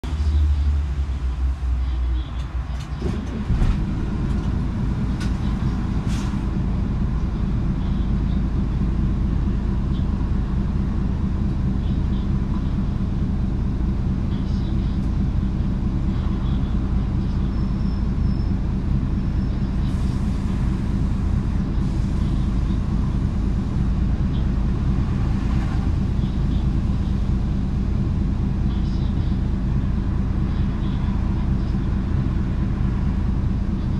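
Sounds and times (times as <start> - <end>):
bus diesel engine running: 0.0 - 33.9
heavy low hum: 0.0 - 33.9.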